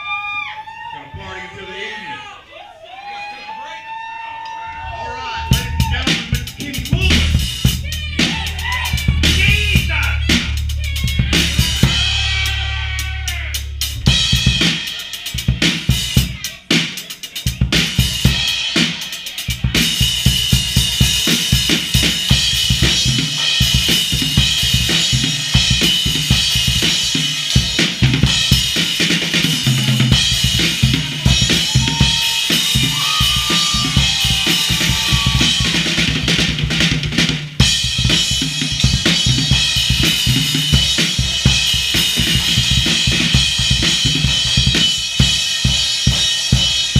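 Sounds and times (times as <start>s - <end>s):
drum kit playing: 4.8s - 46.9s.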